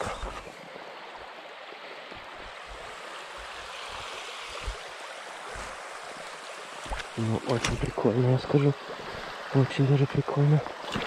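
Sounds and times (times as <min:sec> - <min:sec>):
river flowing over stones: 0:00.0 - 0:11.0.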